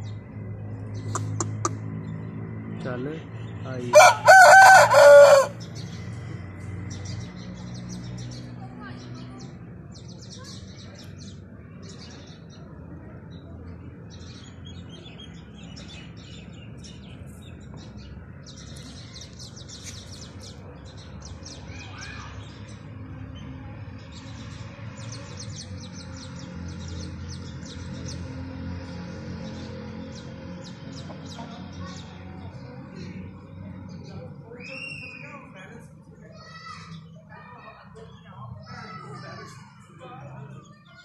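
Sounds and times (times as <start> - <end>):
small birds chirping: 0.0 - 4.2, 5.0 - 41.0.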